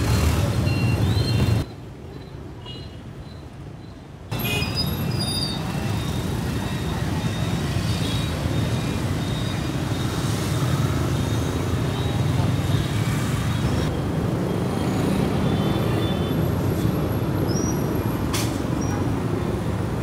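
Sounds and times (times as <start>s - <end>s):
motorbike traffic rumble: 0.0s - 20.0s.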